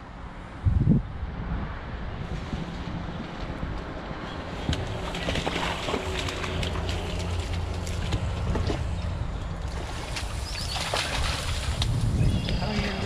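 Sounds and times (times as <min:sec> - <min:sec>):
wind buffeting microphone: 0:00.3 - 0:13.0.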